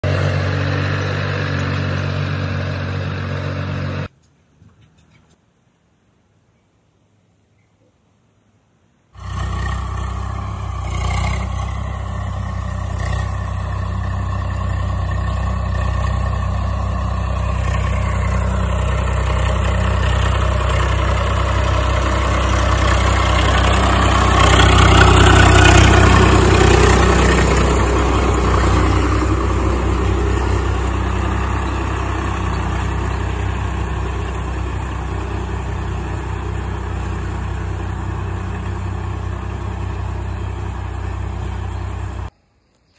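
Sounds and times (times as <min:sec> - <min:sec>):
tractor diesel engine running: 0:00.0 - 0:04.1, 0:09.2 - 0:42.3.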